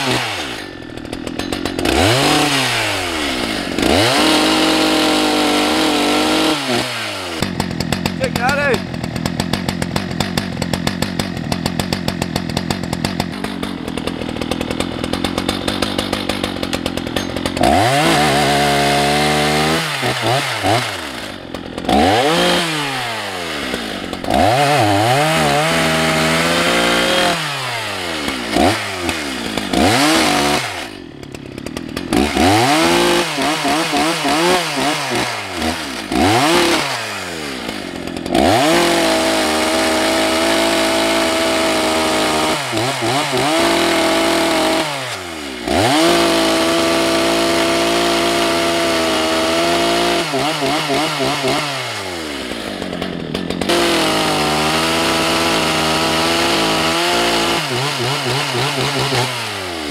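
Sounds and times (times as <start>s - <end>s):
chainsaw idling and cutting logs: 0.0s - 59.9s.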